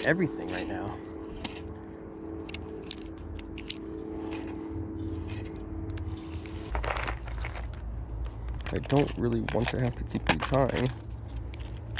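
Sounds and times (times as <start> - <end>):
low rumble: 0.0 - 11.9
steady motor hum: 0.0 - 11.9.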